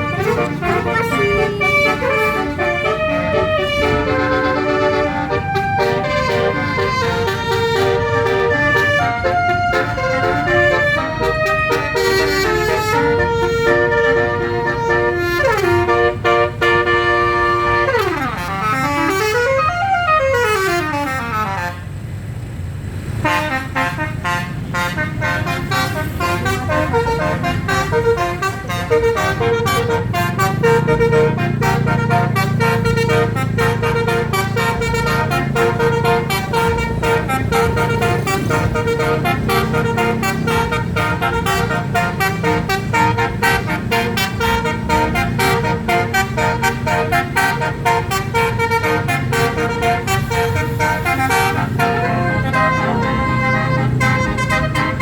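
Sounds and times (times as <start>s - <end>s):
multi-tone bus horn: 0.0s - 22.2s, 23.1s - 55.0s
low rumble of bus engine: 0.0s - 55.0s.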